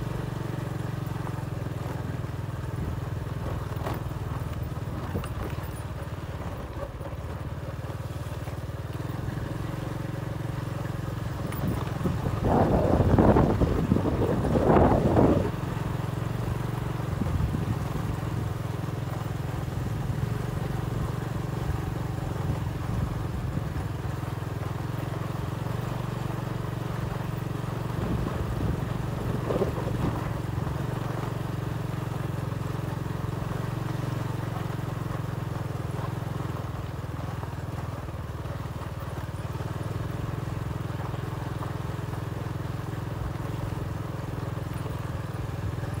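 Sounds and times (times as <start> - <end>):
motorbike engine running: 0.0 - 46.0.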